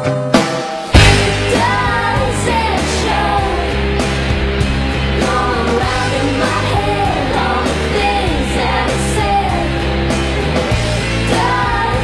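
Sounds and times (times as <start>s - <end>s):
pop rock song with male vocals: 1.0s - 12.0s.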